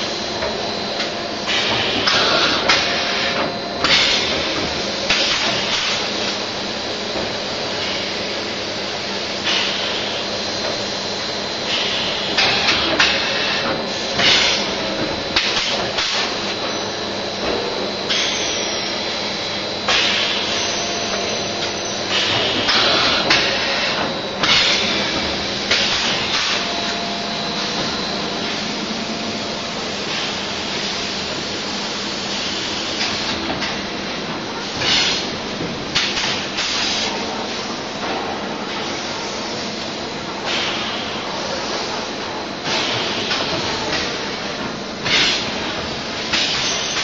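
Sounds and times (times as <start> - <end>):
machine humming: 0.0 - 42.6.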